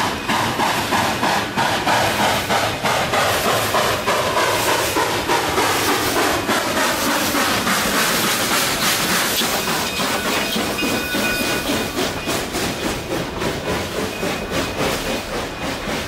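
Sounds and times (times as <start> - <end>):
hiss of steam: 0.0 - 16.0
train clattering on rails: 0.0 - 16.0.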